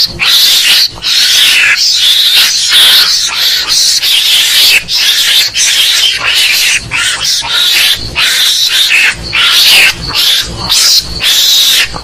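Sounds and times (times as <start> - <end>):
mongoose squealing and chattering: 0.0 - 12.0.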